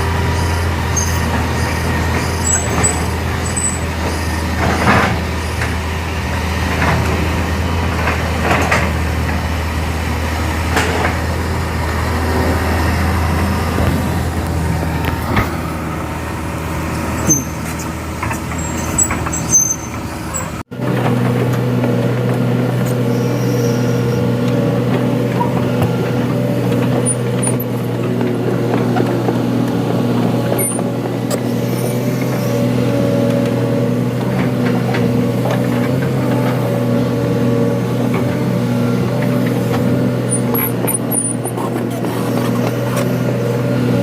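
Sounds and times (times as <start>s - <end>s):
diesel engine running steadily: 0.0s - 44.0s.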